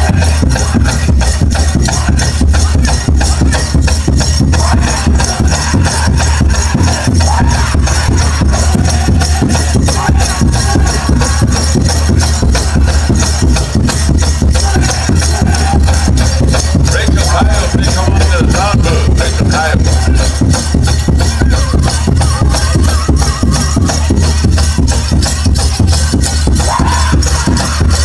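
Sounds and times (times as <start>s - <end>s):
big drum pounding steady beat: 0.0s - 28.0s
singers chanting: 0.0s - 28.0s.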